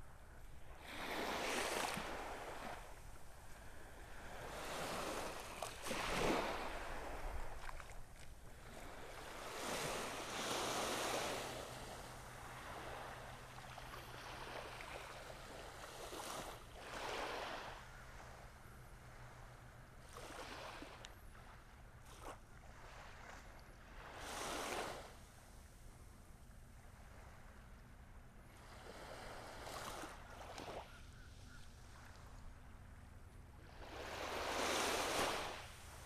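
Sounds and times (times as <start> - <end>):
waves breaking on shore: 0.6 - 25.4, 28.5 - 30.9, 33.6 - 36.0.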